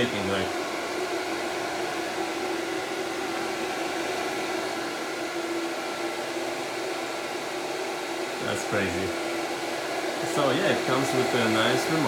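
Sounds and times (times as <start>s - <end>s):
duct fan rushing air: 0.0s - 12.0s
fan hum: 0.0s - 12.0s.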